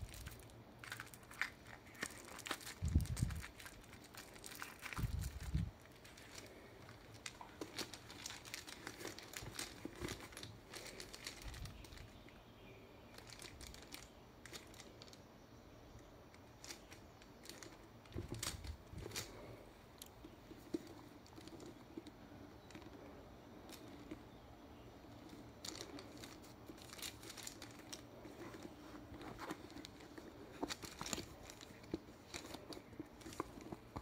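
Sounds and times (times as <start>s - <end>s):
plastic film crinkling: 0.0s - 12.2s, 13.1s - 15.2s, 16.4s - 23.0s, 25.0s - 34.0s.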